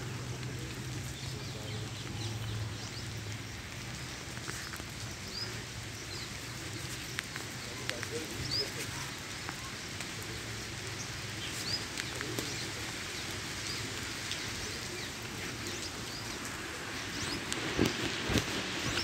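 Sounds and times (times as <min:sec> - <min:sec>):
oil crackling: 0:00.0 - 0:19.0.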